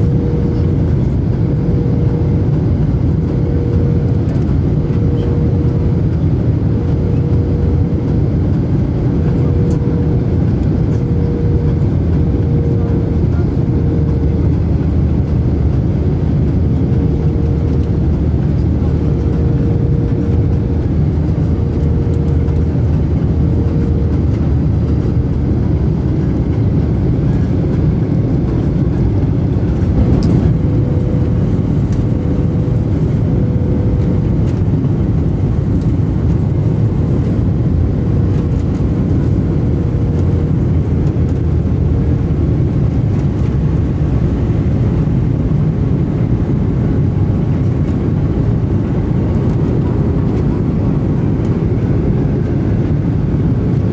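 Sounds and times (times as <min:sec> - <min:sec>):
airliner cabin engine and air noise: 0:00.0 - 0:53.9.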